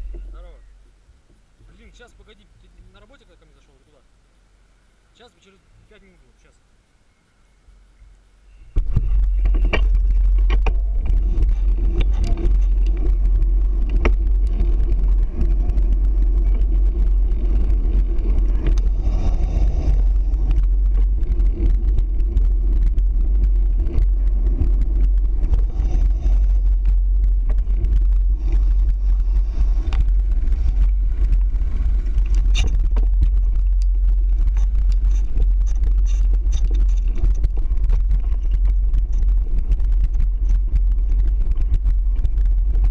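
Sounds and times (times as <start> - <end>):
low rumble of wind and vibration: 0.0 - 42.9.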